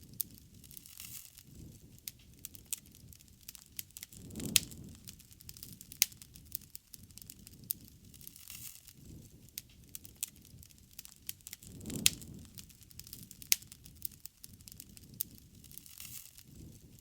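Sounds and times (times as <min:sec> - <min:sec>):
bonfire crackling and popping: 0:00.0 - 0:17.0
low rush of flame: 0:00.0 - 0:17.0.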